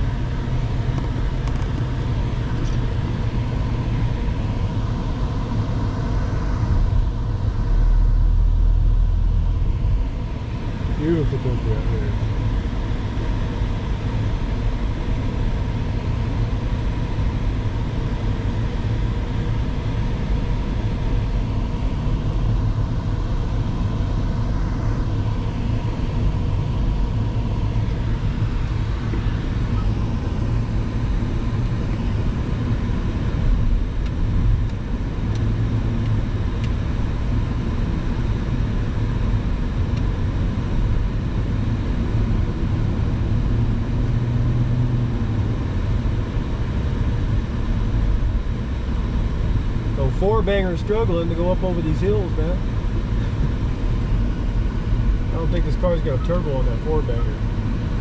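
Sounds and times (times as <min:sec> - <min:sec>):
car engine and road rumble: 0:00.0 - 0:58.0
faint steady whine: 0:00.0 - 0:58.0.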